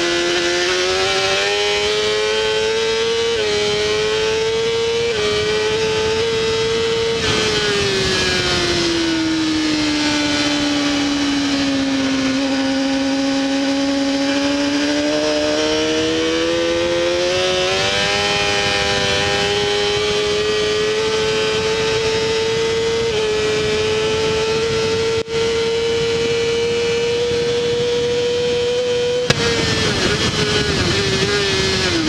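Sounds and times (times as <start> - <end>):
motorcycle engine revving high: 0.0 - 32.0
wind rush: 0.0 - 32.0.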